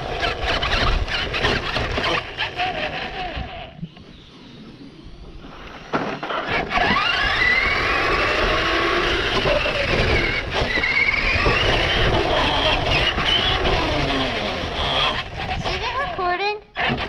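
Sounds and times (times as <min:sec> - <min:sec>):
wheels rumbling on ground: 0:00.0 - 0:03.6, 0:05.5 - 0:16.2
toy car motor whining: 0:00.0 - 0:05.4, 0:06.1 - 0:17.0.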